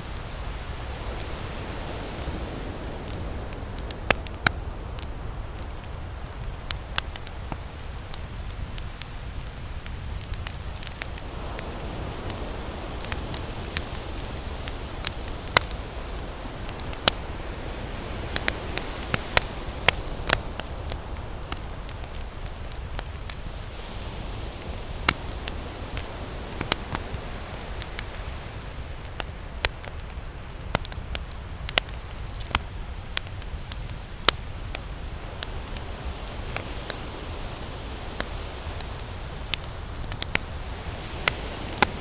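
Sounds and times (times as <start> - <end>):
campfire crackling and popping: 0.0 - 42.0
waves on the shore: 0.0 - 42.0.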